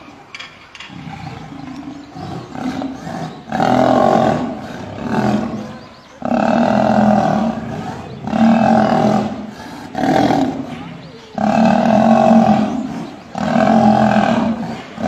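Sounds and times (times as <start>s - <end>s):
lions growling in a fight: 0.9s - 15.0s.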